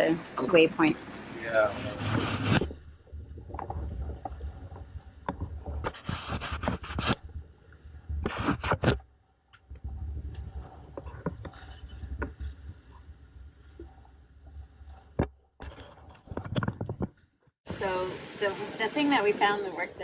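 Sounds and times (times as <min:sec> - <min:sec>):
waves splashing along hull: 0:00.0 - 0:20.0
wind rumble on microphone: 0:01.4 - 0:09.0, 0:09.7 - 0:20.0.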